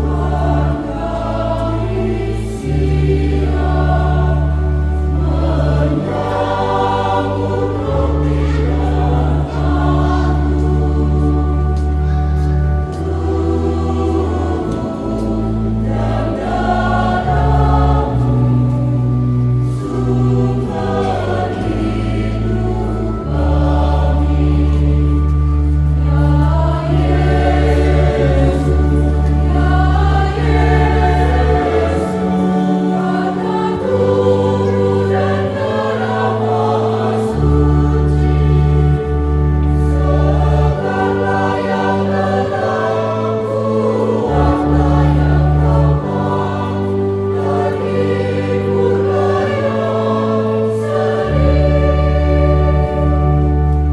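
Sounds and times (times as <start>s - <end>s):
choir singing a hymn: 0.0s - 53.9s
low accompaniment chords: 0.0s - 53.9s.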